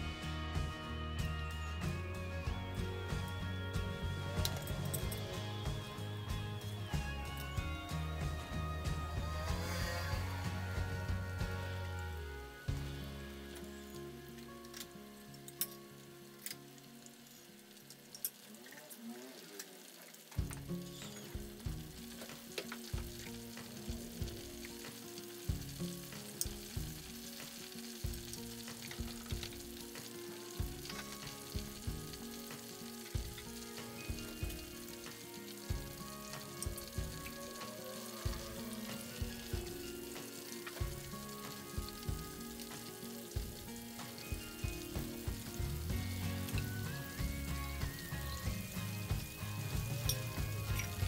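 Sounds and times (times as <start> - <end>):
chicken deep-frying in oil: 0.0 - 51.0.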